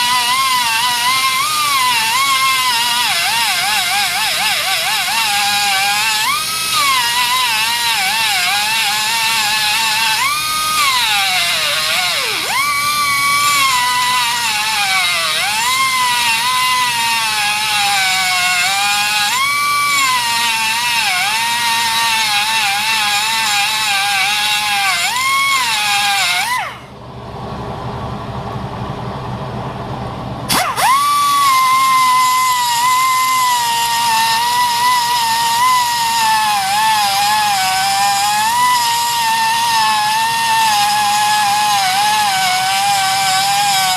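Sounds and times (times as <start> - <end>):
die grinder grinding steel: 0.0 - 27.0, 30.5 - 43.9.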